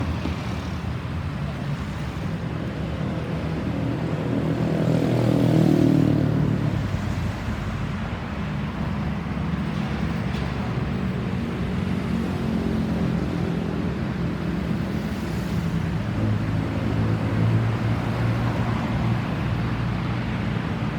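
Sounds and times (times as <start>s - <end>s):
traffic noise: 0.0s - 20.9s.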